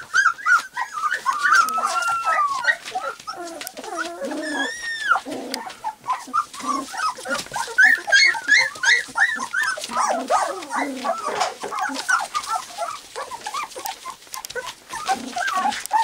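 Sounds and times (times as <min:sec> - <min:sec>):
puppies whimpering and yipping: 0:00.0 - 0:16.0
puppy whine: 0:00.0 - 0:16.0.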